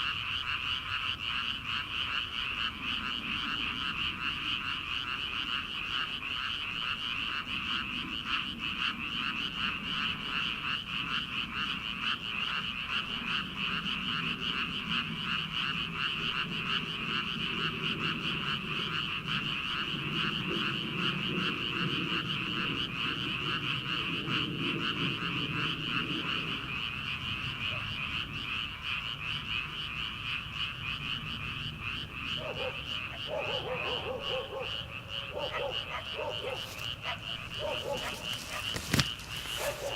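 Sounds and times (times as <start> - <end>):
chorus of frogs croaking: 0.0 - 39.9
deeper croaking: 0.0 - 39.9.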